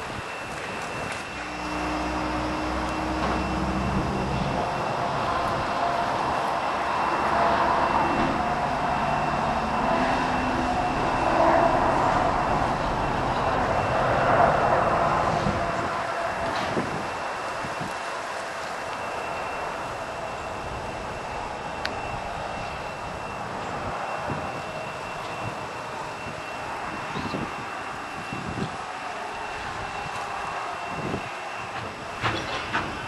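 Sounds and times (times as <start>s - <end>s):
steam locomotive rushing: 0.0s - 33.0s.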